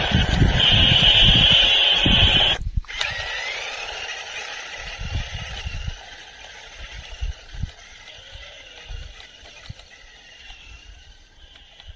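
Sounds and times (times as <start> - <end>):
toy truck electric motor whining: 0.0 - 11.9.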